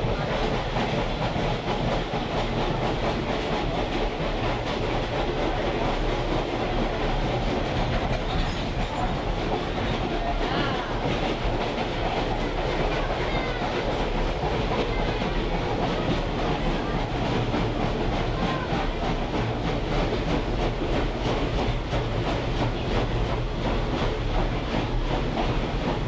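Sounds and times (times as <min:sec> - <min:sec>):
clickety-clack over rail joints: 0:00.0 - 0:26.0
train wheels rumbling on track: 0:00.0 - 0:26.0.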